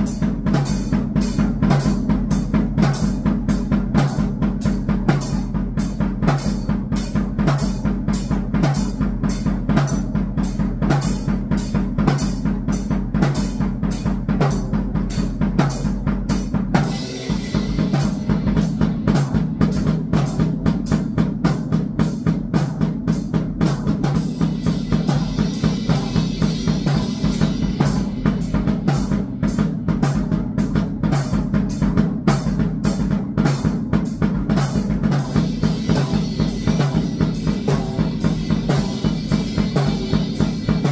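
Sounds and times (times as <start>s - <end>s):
drum kit fast beat: 0.0s - 40.9s.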